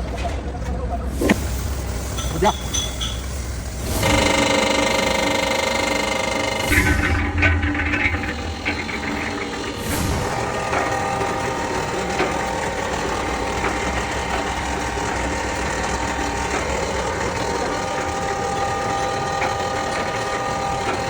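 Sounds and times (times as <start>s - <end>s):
concrete mixer rumbling: 0.0s - 21.0s
drive whine: 0.8s - 21.0s.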